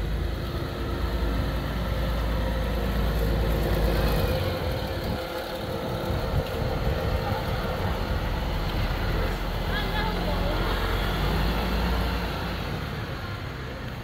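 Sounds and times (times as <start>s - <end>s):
street noise: 0.0s - 14.0s
vehicle engine rumbling: 0.0s - 14.0s.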